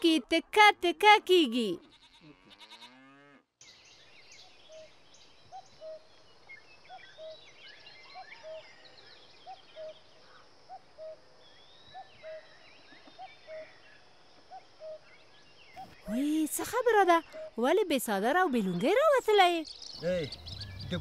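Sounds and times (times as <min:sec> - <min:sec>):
small birds chirping: 0:03.6 - 0:21.0.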